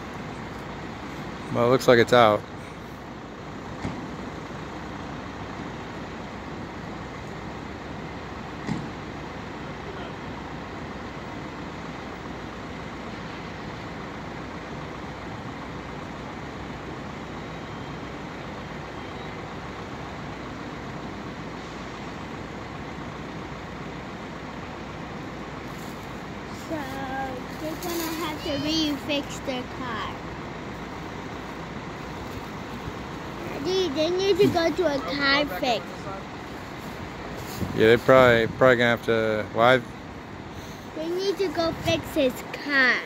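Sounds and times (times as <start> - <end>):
vehicle engines idling: 0.0 - 43.0.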